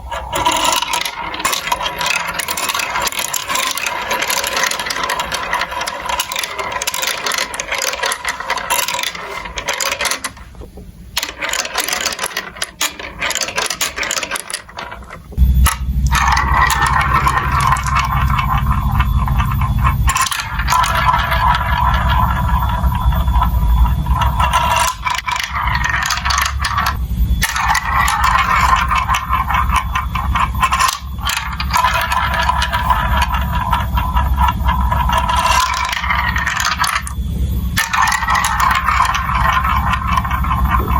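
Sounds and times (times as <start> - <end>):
marbles clicking and rattling: 0.0 - 40.9.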